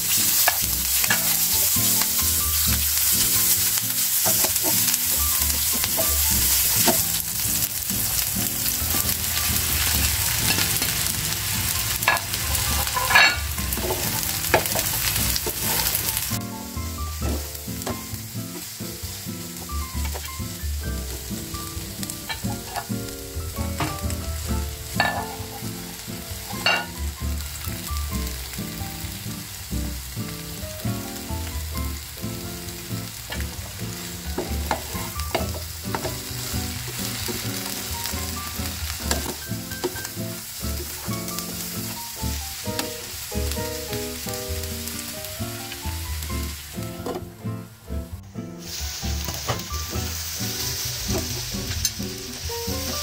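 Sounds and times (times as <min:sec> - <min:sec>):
vegetables sizzling in a pan: 0:00.0 - 0:47.8, 0:48.4 - 0:53.0.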